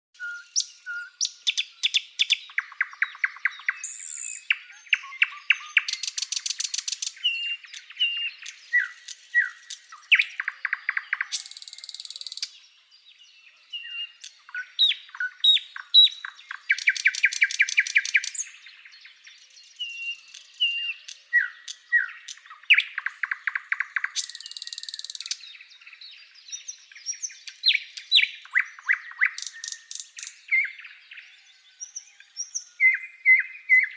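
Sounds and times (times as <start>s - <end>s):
songbird singing: 0.1s - 33.9s.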